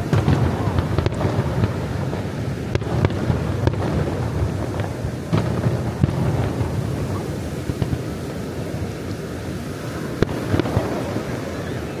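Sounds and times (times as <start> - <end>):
fireworks sharp bangs: 0.0 - 12.0.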